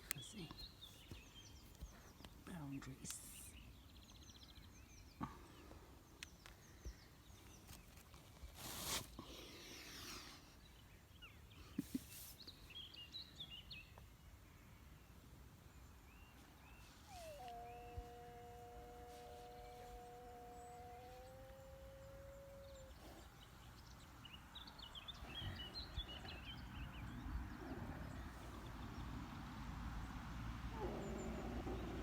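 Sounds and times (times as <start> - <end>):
faint songbird chirps: 0.0 - 29.2, 30.7 - 32.0.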